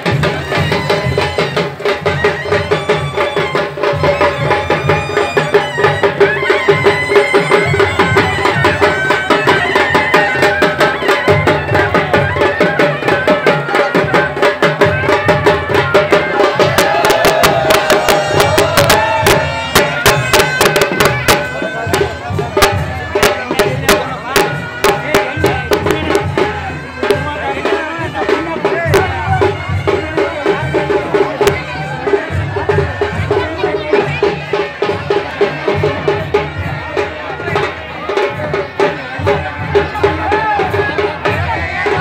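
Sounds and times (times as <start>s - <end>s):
fast dense drumming: 0.0s - 42.0s
wind instrument melody: 0.0s - 42.0s.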